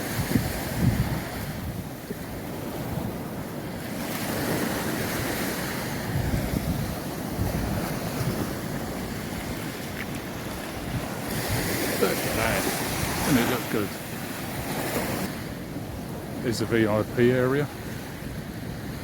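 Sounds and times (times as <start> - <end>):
sea waves breaking on beach: 0.0 - 19.0
wind buffeting microphone: 0.0 - 19.0.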